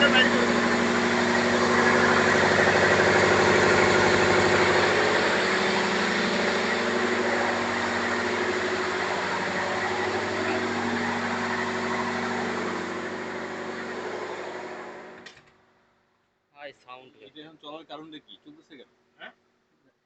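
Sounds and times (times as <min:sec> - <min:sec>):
diesel generator drone: 0:00.0 - 0:15.4, 0:16.8 - 0:18.8.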